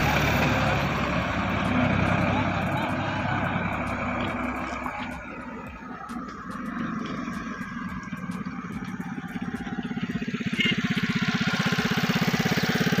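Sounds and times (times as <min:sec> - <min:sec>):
engine chugging: 0:00.0 - 0:13.0.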